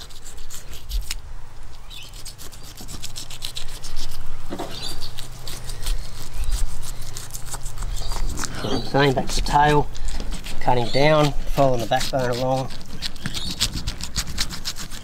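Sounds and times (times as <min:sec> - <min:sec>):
knife rasping through fish scales: 0:00.0 - 0:01.2, 0:01.9 - 0:15.0.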